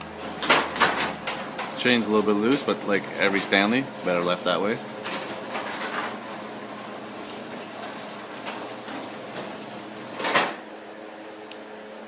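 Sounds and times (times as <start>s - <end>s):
garage door opener running: 0.0s - 11.3s.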